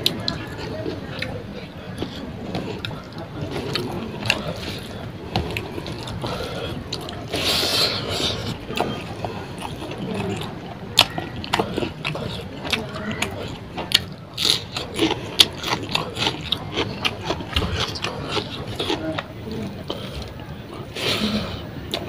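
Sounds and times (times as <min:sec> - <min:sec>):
person chewing wetly: 0:00.0 - 0:22.0.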